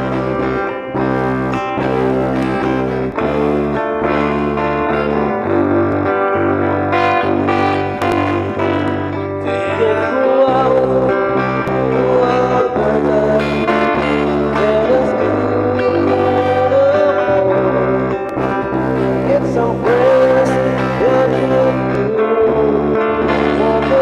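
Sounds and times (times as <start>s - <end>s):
guitar and bass instrumental: 0.0s - 24.0s.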